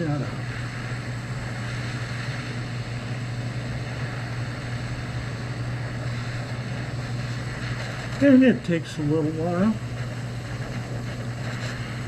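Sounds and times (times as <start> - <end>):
low hum: 0.0 - 12.0
torch lighter burning: 0.0 - 12.0.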